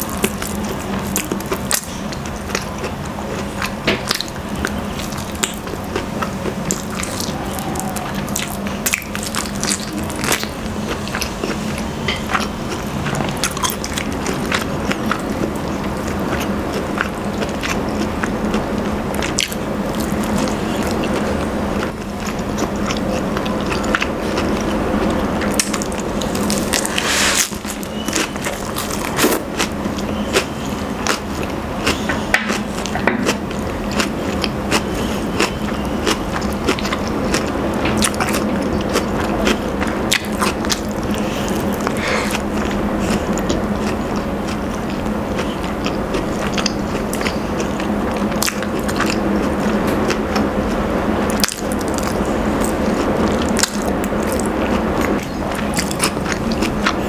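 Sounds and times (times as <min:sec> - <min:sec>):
chewing chicken: 0:00.0 - 0:57.0
steady low hum: 0:00.0 - 0:57.0.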